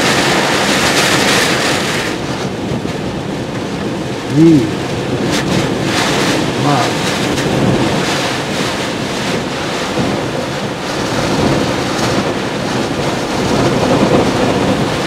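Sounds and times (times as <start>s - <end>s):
strong wind gusting: 0.0s - 15.0s
wind buffeting microphone: 0.0s - 15.0s
wind-driven rain: 0.0s - 15.0s.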